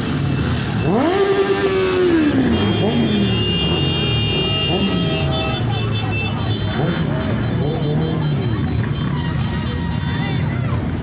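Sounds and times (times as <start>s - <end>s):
motorcycle engine revving: 0.0s - 9.6s
other motorcycles running: 0.0s - 11.0s.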